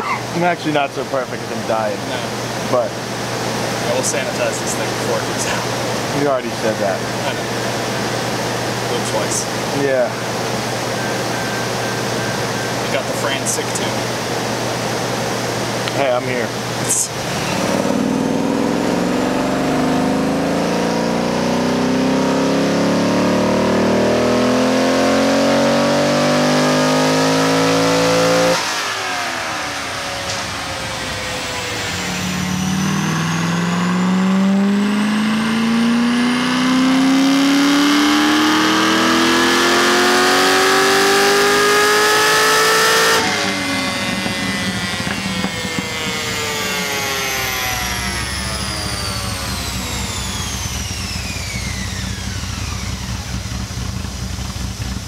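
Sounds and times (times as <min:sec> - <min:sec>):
car engine revving on dyno: 0:00.0 - 0:55.0
engine winding down: 0:00.0 - 0:55.0.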